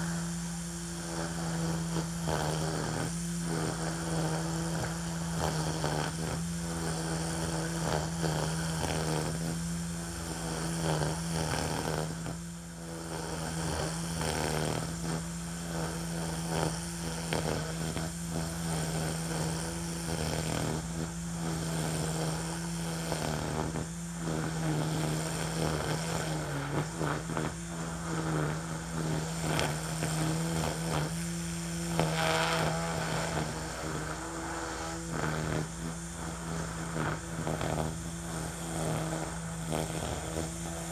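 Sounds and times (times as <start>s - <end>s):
string trimmer humming: 0.0s - 40.9s.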